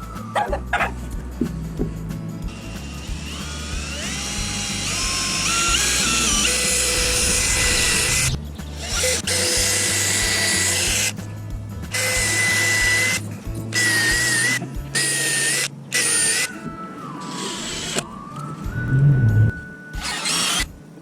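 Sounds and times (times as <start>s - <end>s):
background music: 0.0s - 21.0s
power drill whine: 2.5s - 11.1s, 11.9s - 20.8s.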